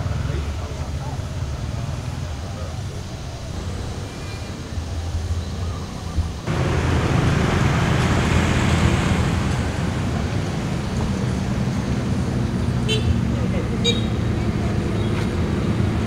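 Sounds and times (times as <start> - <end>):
low traffic rumble: 0.0 - 16.0
passing cars: 0.0 - 16.0.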